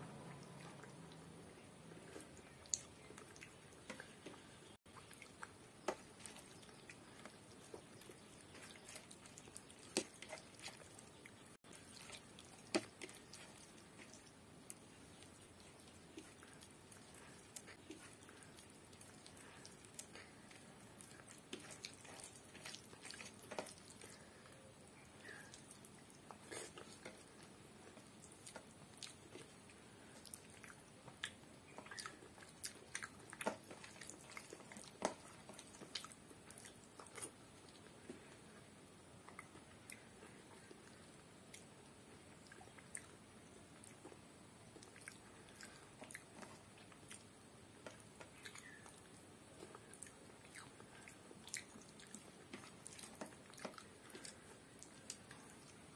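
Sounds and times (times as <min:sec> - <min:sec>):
faint chewing clicks and smacks: 0:00.0 - 0:55.9.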